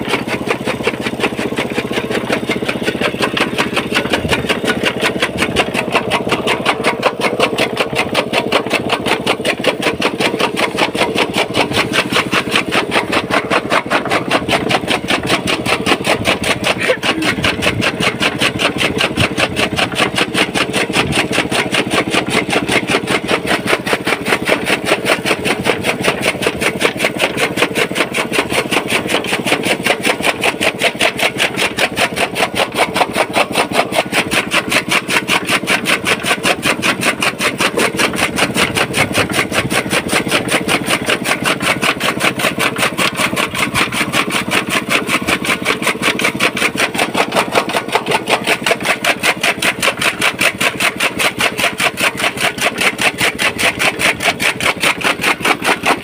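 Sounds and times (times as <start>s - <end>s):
blades chopping fodder: 0.0s - 56.0s
small petrol engine running: 0.0s - 56.0s.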